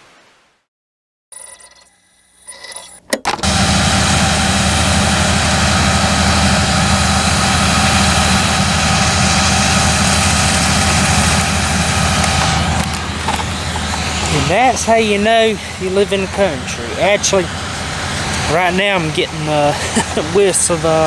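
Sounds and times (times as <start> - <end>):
machine whine: 1.3 - 21.0
farm machinery engine running: 3.0 - 21.0.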